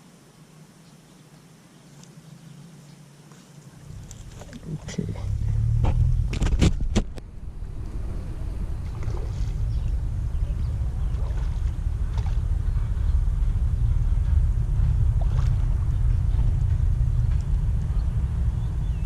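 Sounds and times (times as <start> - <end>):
wind buffeting microphone: 3.8 - 19.0.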